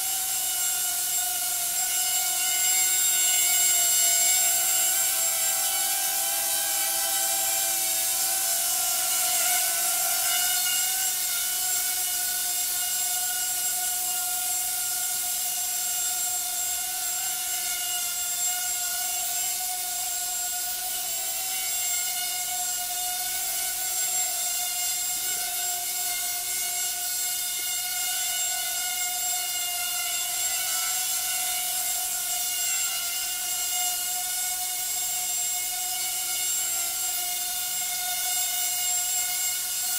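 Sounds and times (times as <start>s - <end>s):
quadcopter propellers whining: 0.0s - 39.9s.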